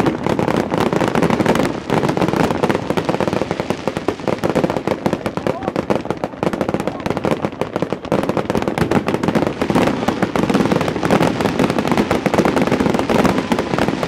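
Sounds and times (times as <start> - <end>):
fireworks crackling bangs: 0.0 - 14.0.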